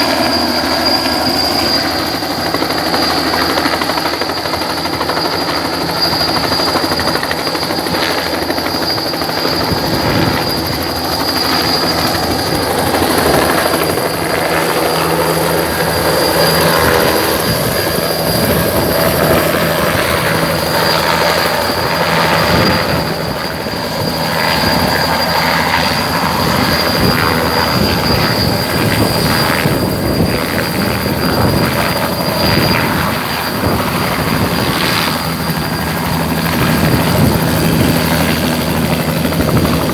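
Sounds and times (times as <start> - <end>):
helicopter high whine: 0.0 - 39.9
helicopter rotor beating: 0.0 - 39.9.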